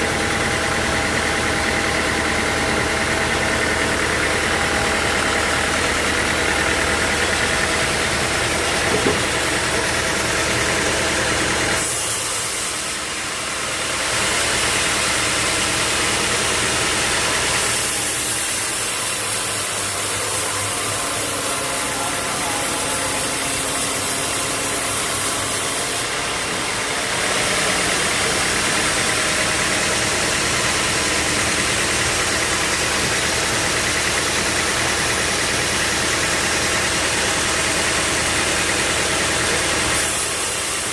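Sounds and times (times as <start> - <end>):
loud machinery hiss: 0.0 - 40.9
sawmill motor hum: 0.0 - 40.9.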